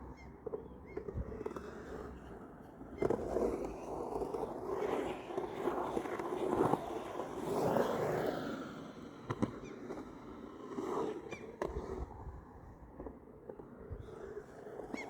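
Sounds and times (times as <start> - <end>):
skateboard wheels rolling on pavement: 0.4 - 15.0.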